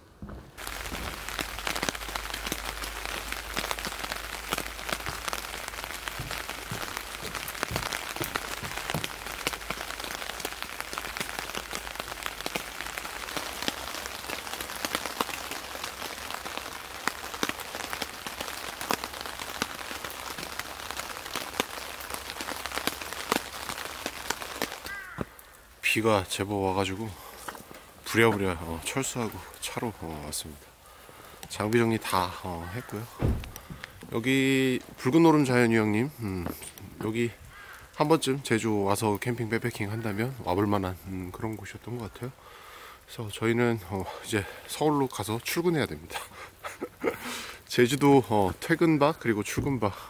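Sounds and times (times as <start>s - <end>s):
heavy rain hiss: 0.0s - 50.0s
raindrops striking surfaces: 0.1s - 50.0s.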